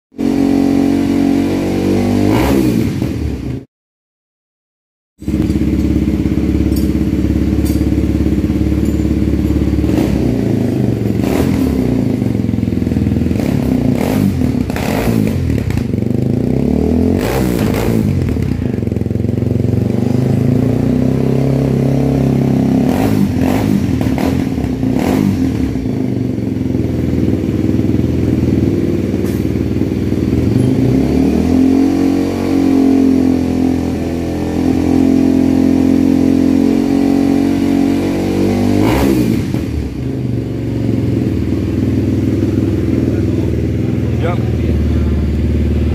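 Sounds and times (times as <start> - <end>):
motorcycle engine revving and idling: 0.2 - 3.7, 5.2 - 45.9.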